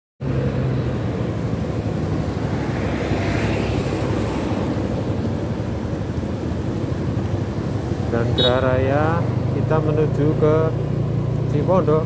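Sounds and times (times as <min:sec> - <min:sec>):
engine and road rumble: 0:00.2 - 0:12.0.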